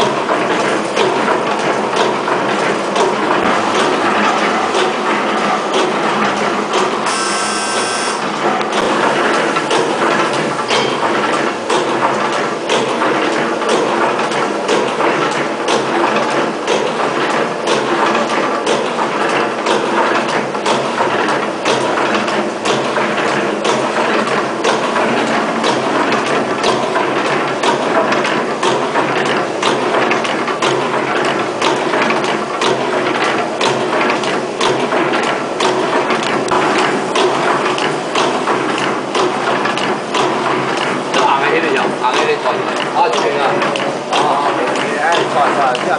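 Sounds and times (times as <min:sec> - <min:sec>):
machine clattering with rhythmic clicks: 0:00.0 - 0:45.9.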